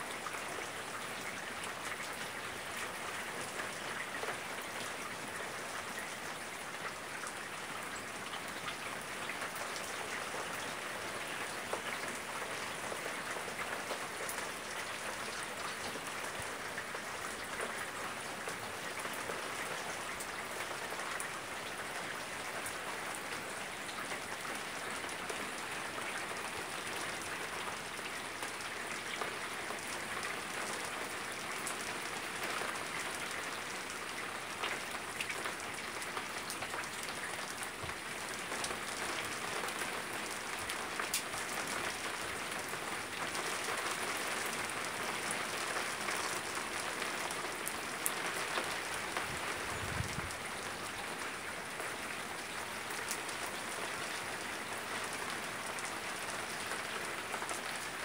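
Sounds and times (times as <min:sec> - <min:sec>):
rain on wooden deck: 0:00.0 - 0:58.0.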